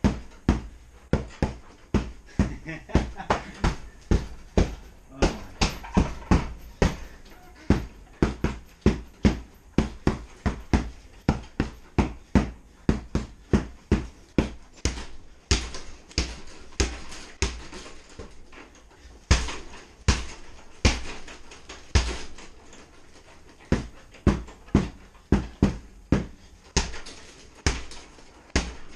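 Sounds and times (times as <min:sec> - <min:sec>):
punching bag thuds: 0:00.0 - 0:18.4, 0:19.3 - 0:22.5, 0:23.6 - 0:28.9.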